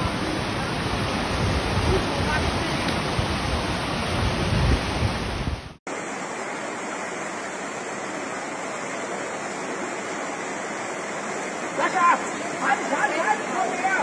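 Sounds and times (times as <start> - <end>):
floodwater rushing with low rumble: 0.0 - 14.0
steady rush of water: 0.0 - 14.0.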